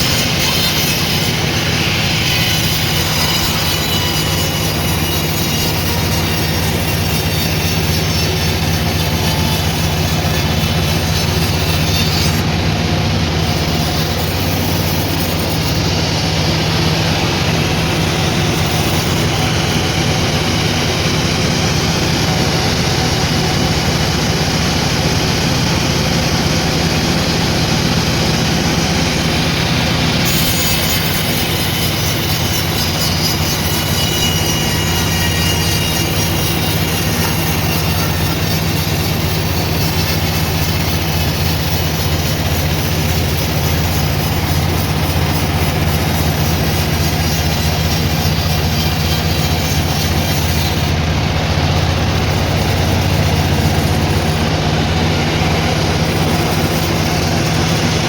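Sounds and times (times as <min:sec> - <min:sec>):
sawmill machinery whirring: 0:00.0 - 0:58.0.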